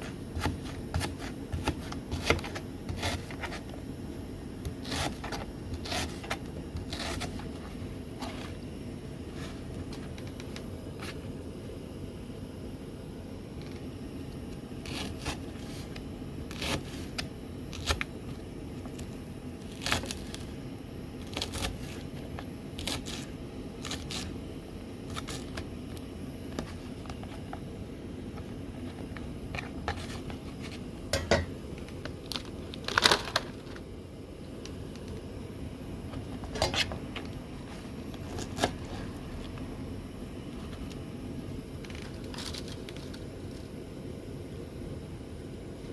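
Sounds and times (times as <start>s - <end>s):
low background hum: 0.0s - 45.9s.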